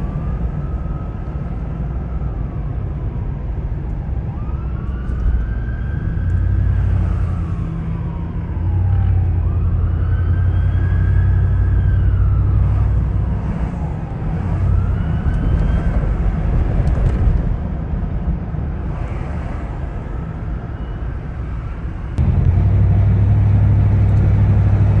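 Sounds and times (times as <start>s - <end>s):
traffic engine drone: 0.0s - 25.0s
vehicles passing by: 0.0s - 25.0s.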